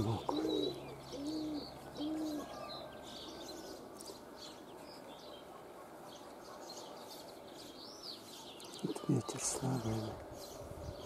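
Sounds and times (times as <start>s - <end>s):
pigeons cooing: 0.0s - 11.0s
small birds chirping: 0.0s - 11.0s.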